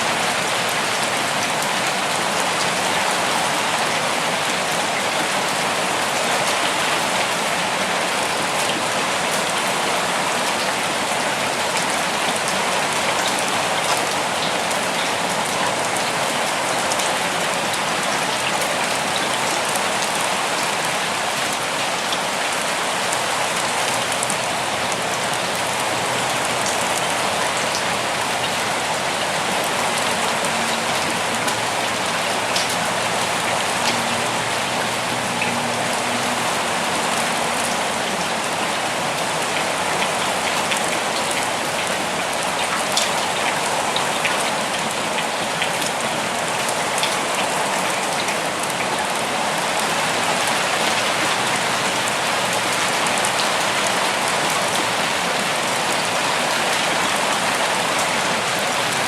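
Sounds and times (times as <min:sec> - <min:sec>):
steady rain in a forest: 0:00.0 - 0:59.0.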